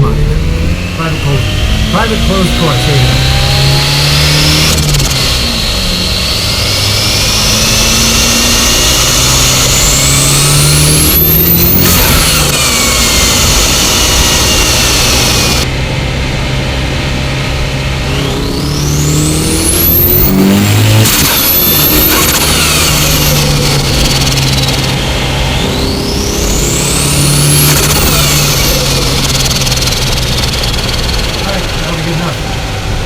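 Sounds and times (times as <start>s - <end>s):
turbo whistling: 0.0s - 15.7s, 18.1s - 32.3s
car engine drone: 0.0s - 33.0s.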